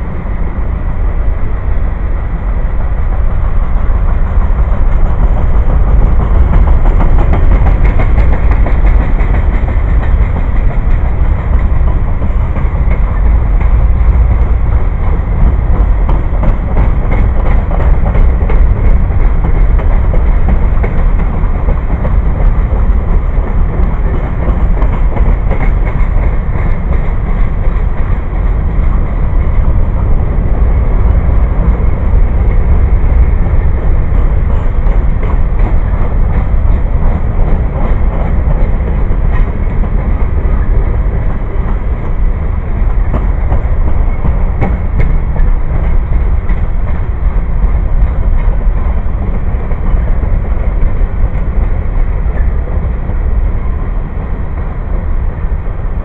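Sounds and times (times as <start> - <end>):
train cars rumbling and clattering: 0.0 - 56.0.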